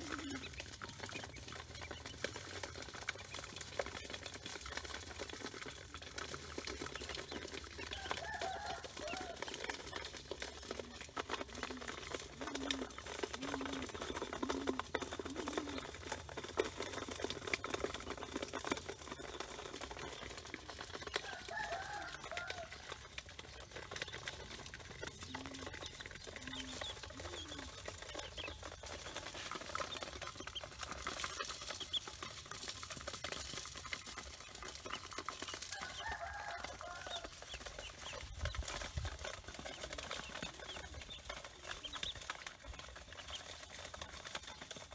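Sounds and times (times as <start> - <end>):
faint clicks and scratching: 0.0 - 44.9
hens clucking: 0.0 - 44.9.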